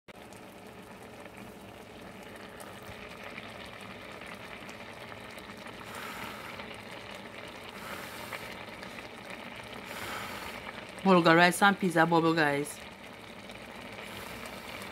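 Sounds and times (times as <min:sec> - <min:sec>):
pot bubbling at a boil: 0:00.1 - 0:14.9.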